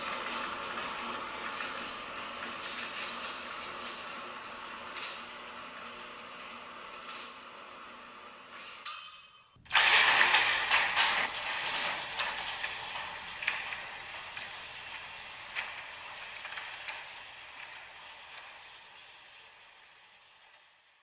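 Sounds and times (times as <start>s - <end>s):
garage door opener rattling: 0.0s - 20.9s.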